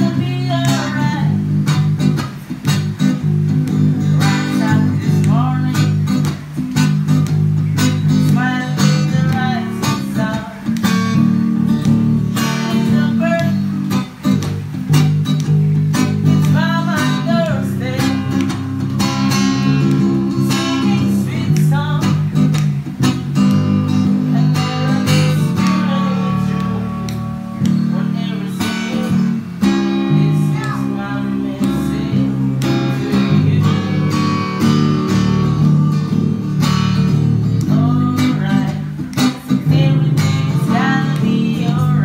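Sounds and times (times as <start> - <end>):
acoustic guitar strummed: 0.0 - 42.0.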